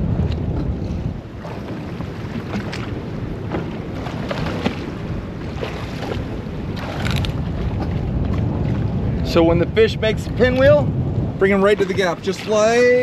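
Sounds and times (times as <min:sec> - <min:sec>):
boat rumble: 0:00.0 - 0:13.0
water splashing against hull: 0:00.0 - 0:13.0
wind buffeting microphone: 0:00.0 - 0:13.0.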